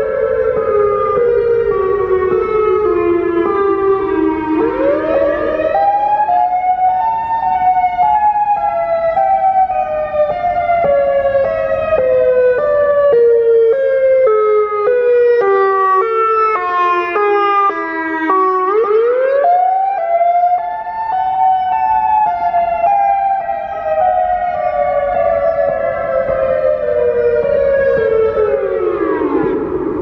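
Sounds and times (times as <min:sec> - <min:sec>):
rise-and-fall warning siren: 0:00.0 - 0:30.0.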